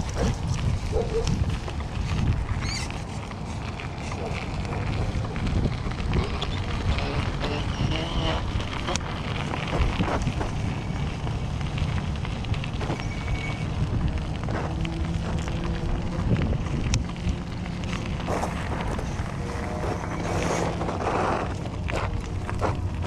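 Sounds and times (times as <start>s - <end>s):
tyres crackling over gravel: 0.0s - 23.0s
wind rushing over microphone: 0.0s - 23.0s.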